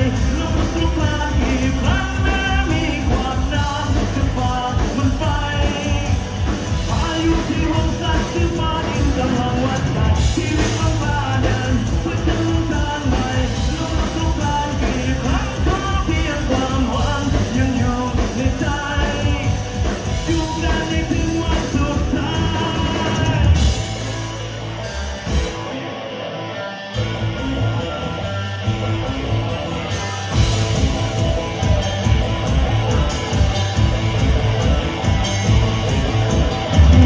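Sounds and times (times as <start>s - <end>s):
driving drum beat: 0.0s - 26.0s, 27.0s - 37.0s
rock band with singing: 0.0s - 37.0s.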